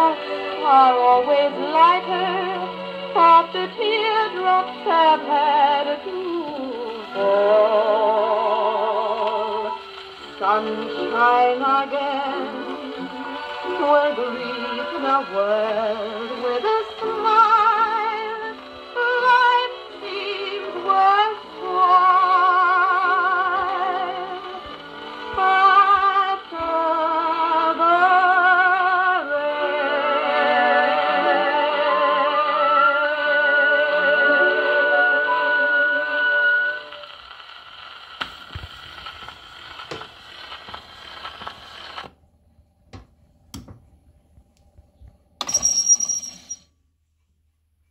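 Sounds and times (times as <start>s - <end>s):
record surface hiss: 0.0s - 47.9s.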